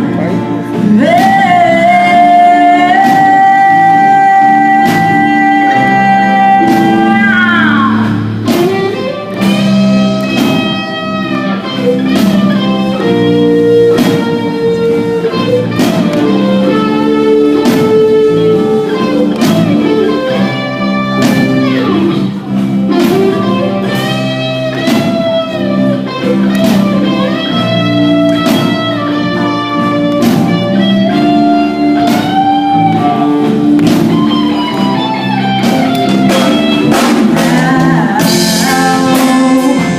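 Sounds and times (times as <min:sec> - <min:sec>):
lead guitar with bent notes: 0:00.0 - 0:39.9
steady drum beat: 0:00.0 - 0:39.9.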